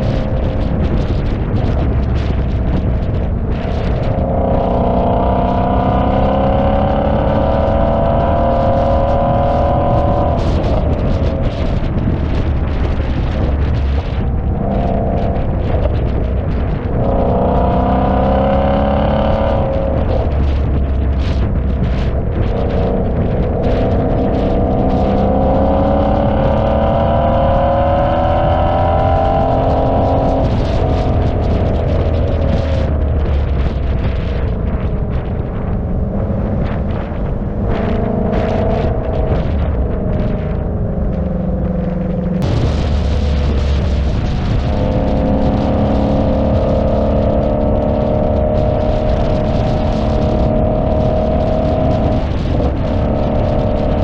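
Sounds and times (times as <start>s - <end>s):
car engine accelerating: 0.0s - 54.0s
low road noise rumble: 0.0s - 54.0s.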